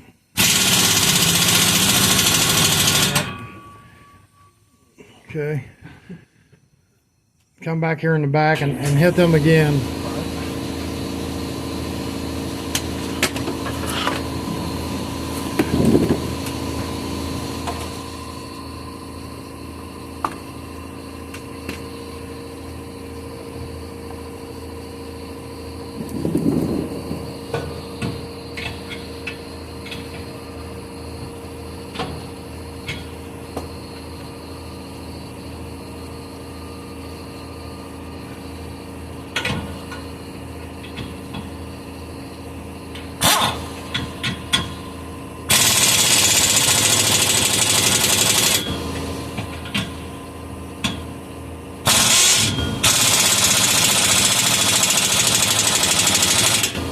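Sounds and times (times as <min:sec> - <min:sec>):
steady mechanical hum: 0:00.0 - 0:56.9.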